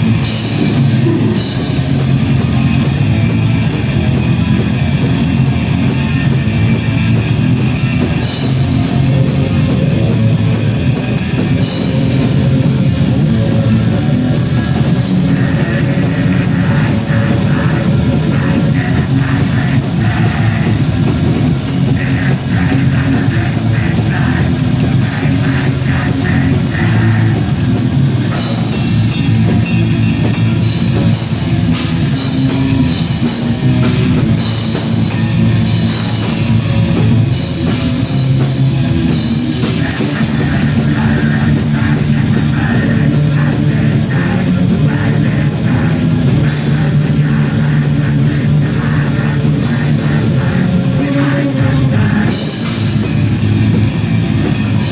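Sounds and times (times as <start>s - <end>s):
bass guitar: 0.0s - 54.9s
distorted electric guitars: 0.0s - 54.9s
drum kit: 0.0s - 54.9s.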